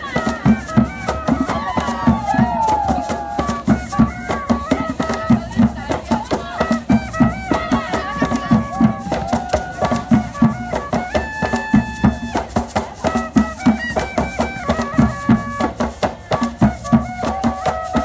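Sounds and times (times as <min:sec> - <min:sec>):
cumbia music: 0:00.0 - 0:18.0
low drum beat: 0:00.0 - 0:18.0
shaker rattle: 0:00.0 - 0:18.0.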